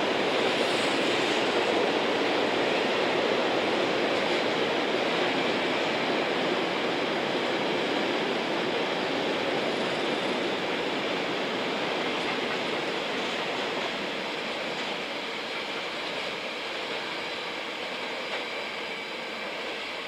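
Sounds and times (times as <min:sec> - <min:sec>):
train wheels rushing on track: 0:00.0 - 0:20.0.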